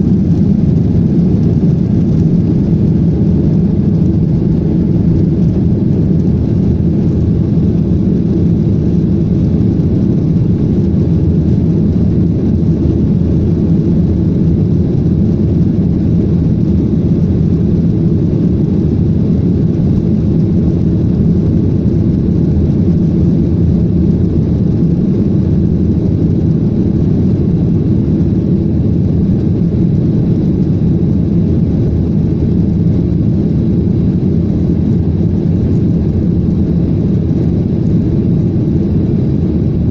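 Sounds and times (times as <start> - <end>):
jet airliner taking off: 0.0 - 39.9.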